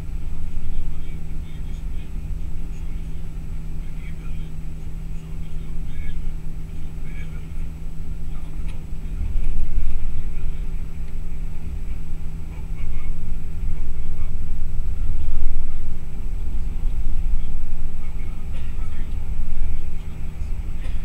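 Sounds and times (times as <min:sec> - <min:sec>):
bus engine drone: 0:00.0 - 0:21.0
road rumble: 0:00.0 - 0:21.0.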